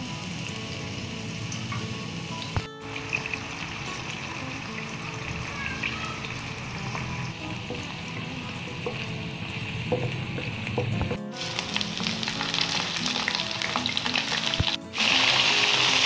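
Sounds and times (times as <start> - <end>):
minced meat sizzling: 0.0 - 16.0
onions frying in oil: 0.0 - 16.0.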